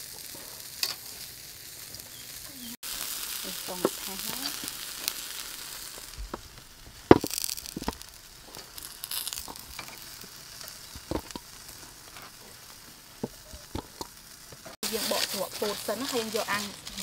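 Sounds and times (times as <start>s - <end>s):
faint grill sizzle: 0.0s - 17.0s.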